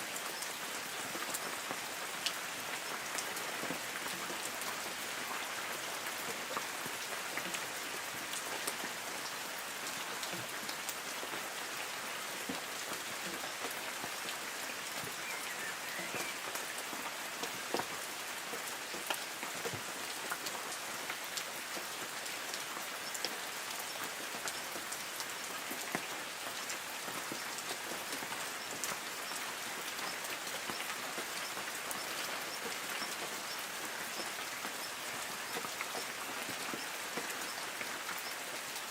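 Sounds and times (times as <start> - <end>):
light rain hissing: 0.0 - 38.9
raindrops striking leaves: 0.0 - 38.9.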